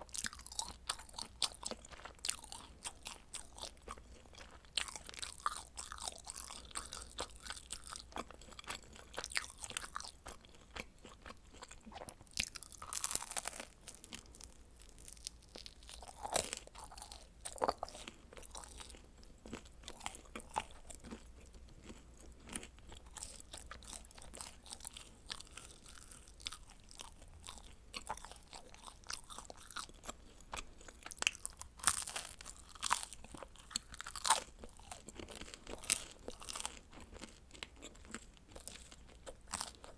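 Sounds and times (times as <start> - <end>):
person chewing crunchy pizza: 0.0 - 39.9.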